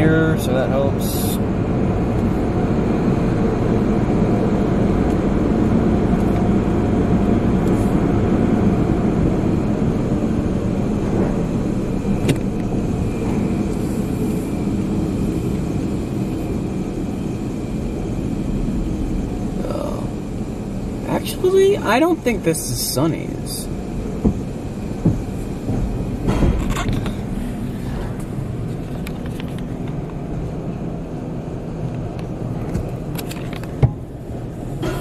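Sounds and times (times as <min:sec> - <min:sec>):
car idling: 0:00.0 - 0:35.0
car wash machinery rumble: 0:00.0 - 0:35.0.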